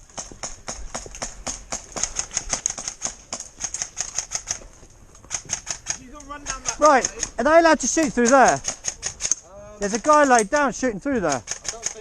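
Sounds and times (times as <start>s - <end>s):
airsoft guns firing clicks: 0.1s - 12.0s.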